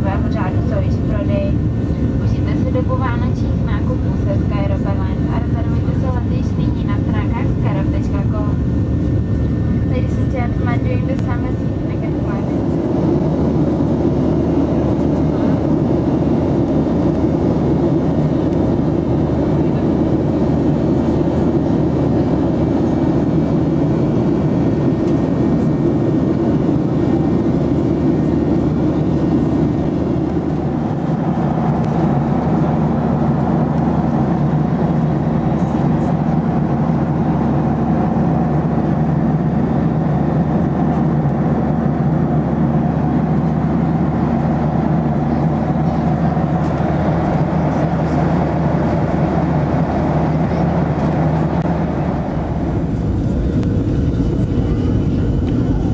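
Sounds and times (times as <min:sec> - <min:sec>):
airplane cabin engine drone: 0:00.0 - 0:55.9.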